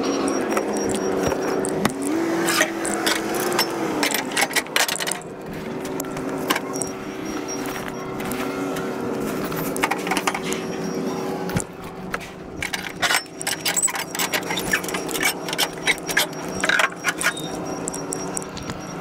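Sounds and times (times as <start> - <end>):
metal chain rattling: 0.0 - 8.2, 11.8 - 19.0
truck engine hum: 0.0 - 19.0.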